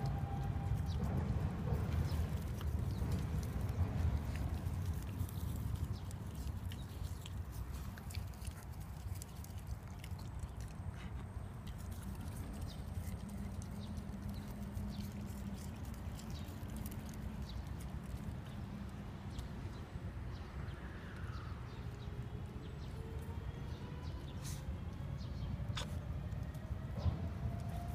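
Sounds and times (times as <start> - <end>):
dog chewing weeds: 0.0 - 19.9, 25.2 - 27.9
steady low rumble: 0.0 - 27.9.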